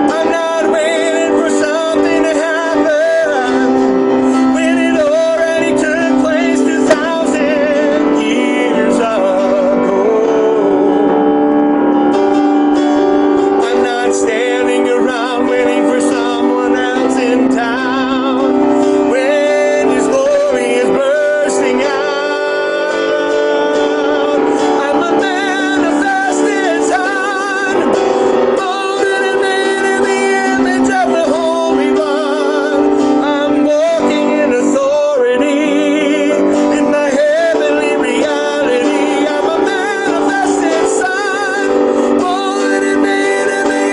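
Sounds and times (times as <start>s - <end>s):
man singing with vibrato: 0.0s - 43.9s
sustained chord accompaniment: 0.0s - 43.9s.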